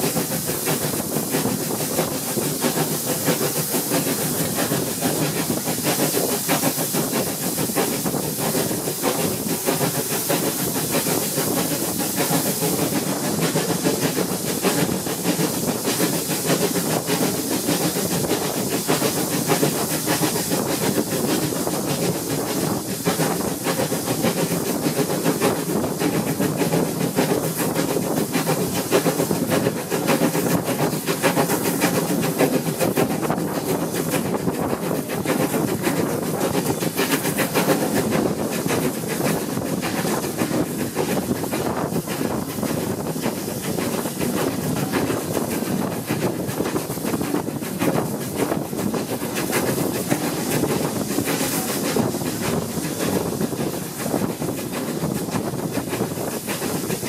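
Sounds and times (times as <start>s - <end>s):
hiss of steam: 0.0s - 57.0s
wheels clattering on rails: 0.0s - 57.0s.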